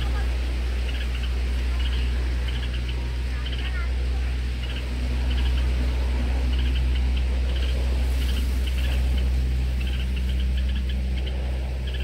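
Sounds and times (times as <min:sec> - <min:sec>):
loud low hum: 0:00.0 - 0:12.0
small bird chirping: 0:00.0 - 0:12.0.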